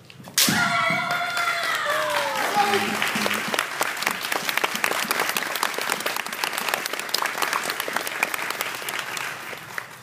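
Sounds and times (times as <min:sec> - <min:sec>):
spectators clapping: 0:00.9 - 0:10.0.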